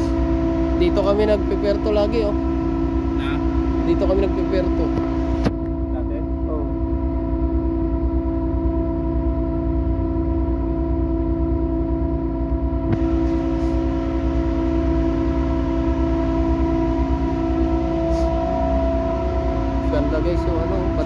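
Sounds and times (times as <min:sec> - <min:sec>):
ship engines rumbling: 0:00.0 - 0:21.0.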